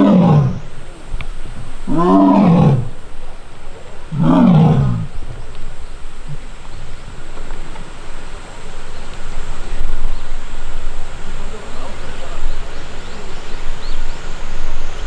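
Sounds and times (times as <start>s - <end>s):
young tiger calling: 0.0s - 14.8s.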